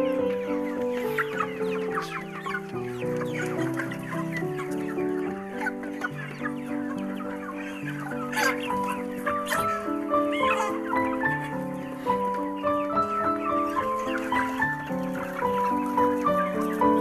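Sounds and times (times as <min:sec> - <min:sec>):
background music with held notes: 0:00.0 - 0:17.0
chickens calling: 0:00.0 - 0:17.0.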